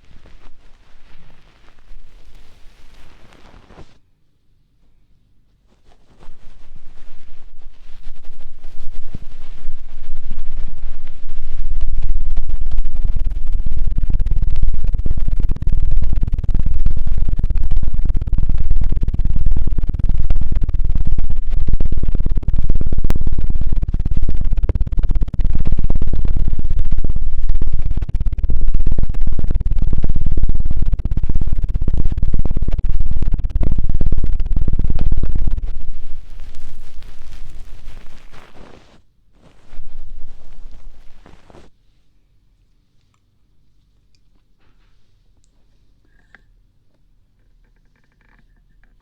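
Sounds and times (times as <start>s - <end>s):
thumping and rubbing on microphone: 0.0s - 4.0s, 5.5s - 41.8s, 44.5s - 45.8s.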